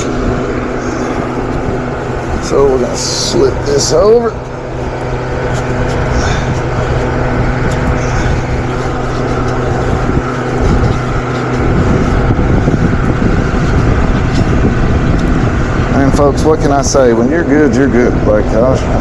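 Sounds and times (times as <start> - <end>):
motor humming and rushing: 0.0 - 19.0.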